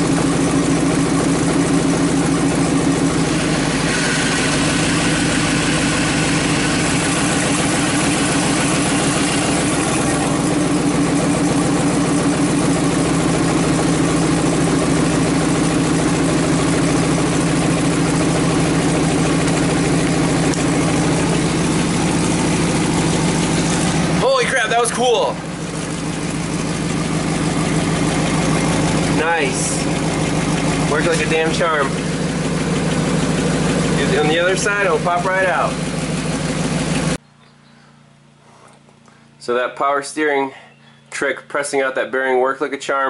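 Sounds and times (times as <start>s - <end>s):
truck engine idling: 0.0s - 39.4s
power steering hiss and whine: 0.0s - 39.5s.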